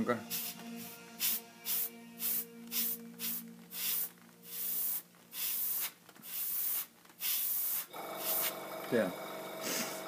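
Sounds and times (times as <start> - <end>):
airbrush spraying in hissing bursts: 0.3 - 8.6.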